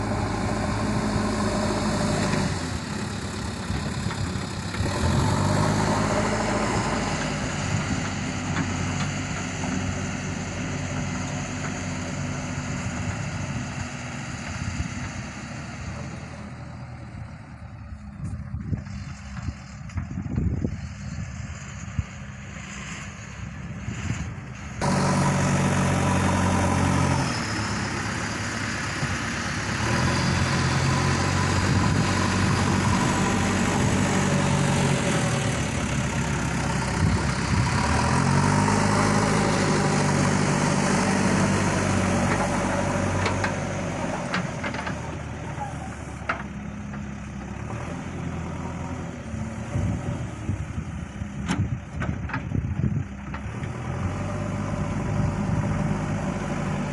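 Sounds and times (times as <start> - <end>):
diesel engine working: 0.0 - 56.9.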